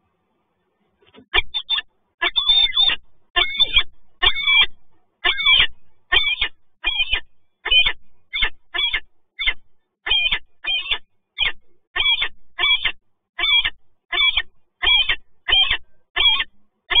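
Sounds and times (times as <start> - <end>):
falcon calling: 1.3 - 17.0.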